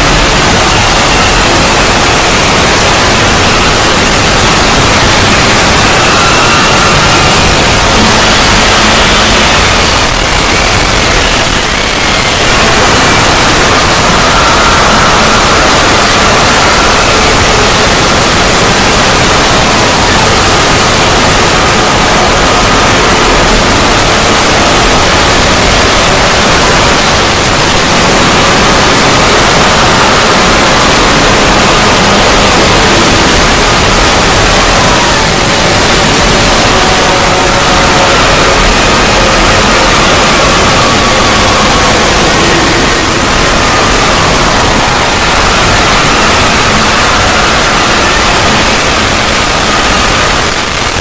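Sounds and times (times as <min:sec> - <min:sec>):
distorted hiss and static: 0:00.0 - 0:51.0.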